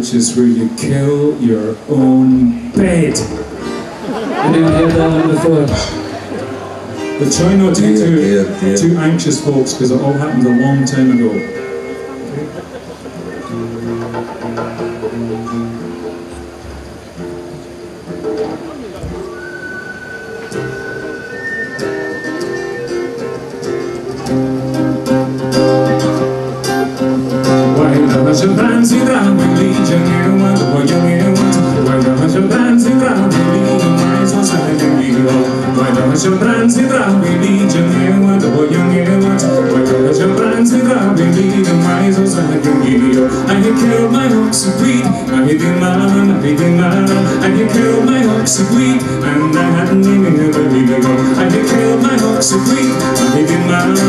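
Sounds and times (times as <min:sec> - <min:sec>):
strummed acoustic guitar: 0:00.0 - 0:54.0
wind instrument melody: 0:03.1 - 0:54.0.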